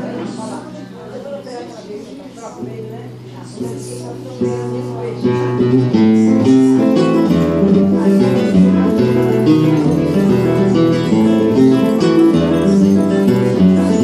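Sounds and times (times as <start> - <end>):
acoustic guitar flamenco piece: 2.5 - 14.0.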